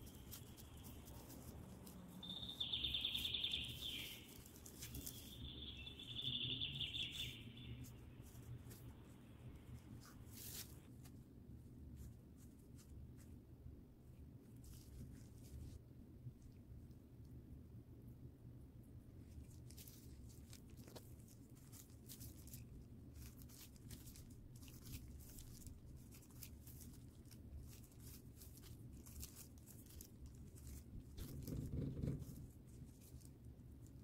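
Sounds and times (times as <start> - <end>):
plastic gloves crinkling: 0.0 - 13.3, 14.5 - 15.8, 19.2 - 34.0
pastry rubbing on a mat: 0.0 - 13.5, 14.3 - 15.9, 19.2 - 34.0.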